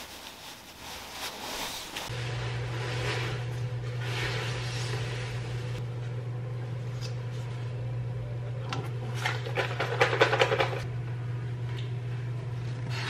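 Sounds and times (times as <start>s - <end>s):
steady low hum: 2.0s - 13.0s.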